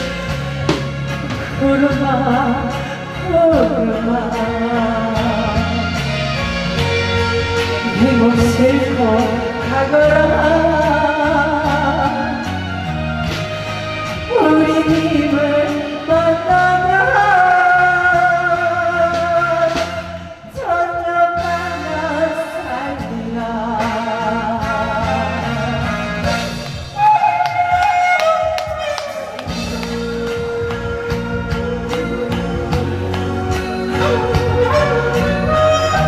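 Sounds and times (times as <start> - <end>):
backing track with steady beat: 0.0 - 36.0
woman singing with vibrato: 1.4 - 6.1, 7.7 - 12.7, 14.1 - 26.2, 27.0 - 36.0.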